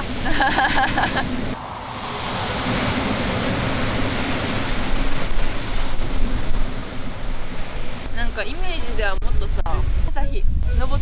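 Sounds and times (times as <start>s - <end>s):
ocean surf washing onto beach: 0.0s - 11.0s
wind rumbling on microphone: 0.0s - 11.0s.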